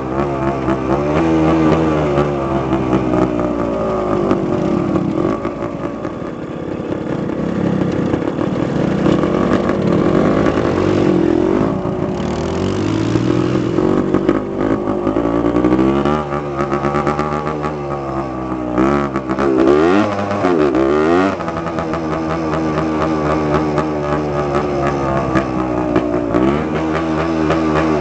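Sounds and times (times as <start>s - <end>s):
dirt bike engine revving: 0.1s - 5.4s, 8.4s - 28.0s.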